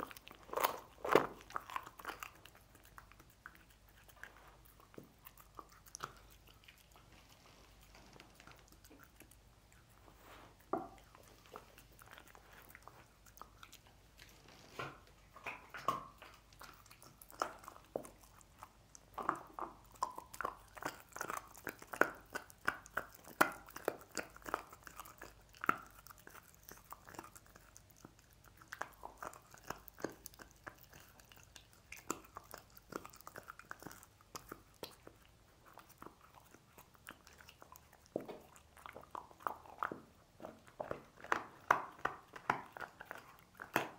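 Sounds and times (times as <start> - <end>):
dog crunching bones: 0.0 - 43.9.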